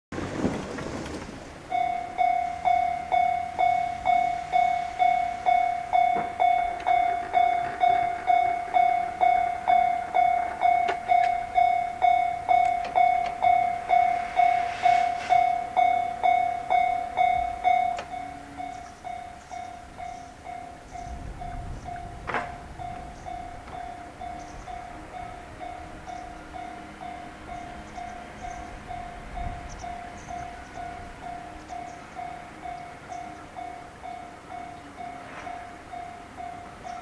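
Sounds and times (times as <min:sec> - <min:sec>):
level crossing warning bell ringing: 0:01.7 - 0:37.0.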